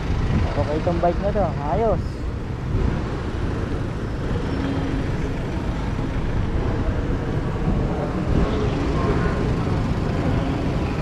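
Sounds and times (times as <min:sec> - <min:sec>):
traffic noise: 0:00.0 - 0:11.0
wind: 0:00.0 - 0:11.0.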